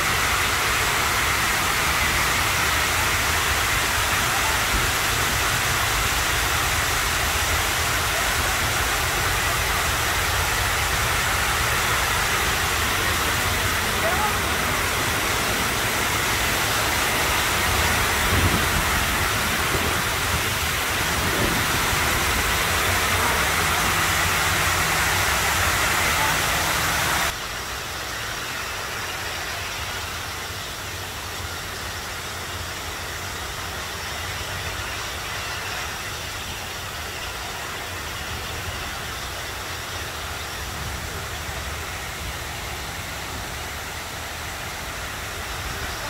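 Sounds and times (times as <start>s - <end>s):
water cascading into a basin: 0.0s - 46.0s.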